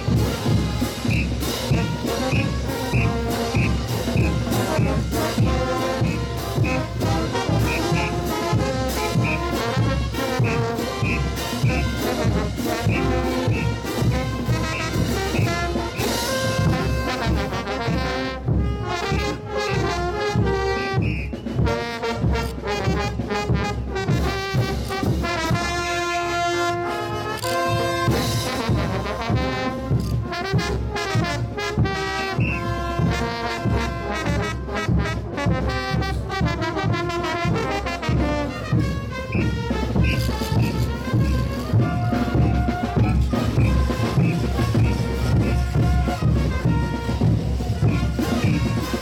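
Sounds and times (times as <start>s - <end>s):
steady drum beat: 0.0s - 26.0s, 27.6s - 49.0s
trumpets and trombones playing: 0.0s - 49.0s.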